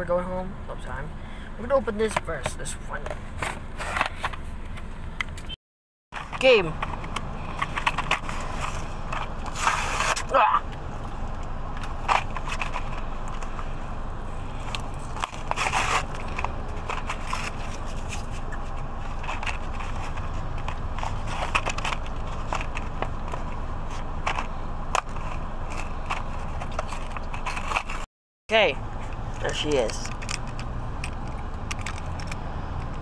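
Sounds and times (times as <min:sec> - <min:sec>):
steady low rumble: 0:06.2 - 0:33.0.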